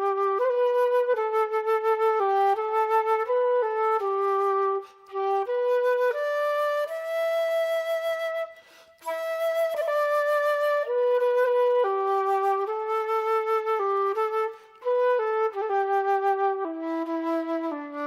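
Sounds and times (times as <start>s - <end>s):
flute playing slow melody: 0.0s - 18.0s.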